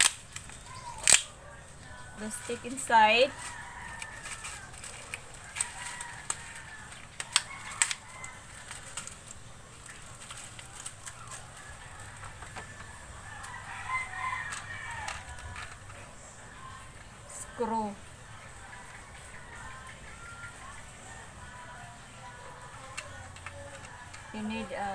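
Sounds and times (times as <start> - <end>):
rooster crowing: 0.6 - 17.6, 18.3 - 24.9.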